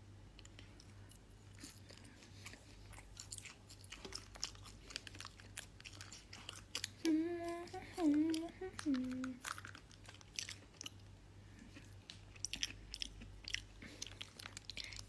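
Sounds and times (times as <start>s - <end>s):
person chewing crunchy food: 0.3s - 15.0s.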